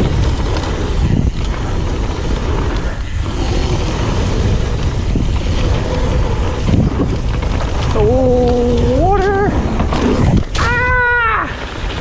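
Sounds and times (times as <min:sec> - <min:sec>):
bike knocks and rattles: 0:00.0 - 0:12.0
bike rolling on dirt trail: 0:00.0 - 0:12.0
wind buffeting microphone: 0:00.0 - 0:12.0.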